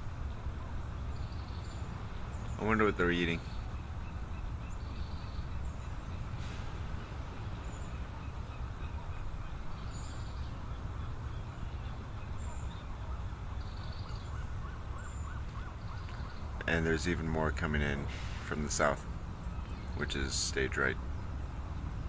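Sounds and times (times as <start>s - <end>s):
din of distant birds: 0.0s - 22.0s
steady low rumble: 0.0s - 22.0s
high bird calls: 0.6s - 22.0s.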